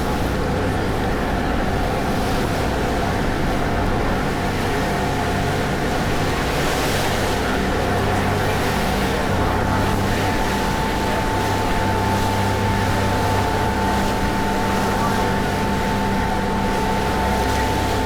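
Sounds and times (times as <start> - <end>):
ferry engines droning: 0.0 - 18.0
water rushing along hull: 0.0 - 18.0
wind: 0.0 - 18.0.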